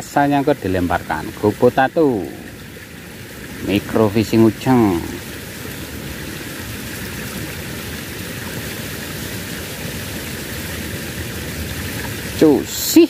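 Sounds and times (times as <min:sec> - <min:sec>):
water rushing down a ditch: 0:00.0 - 0:13.0.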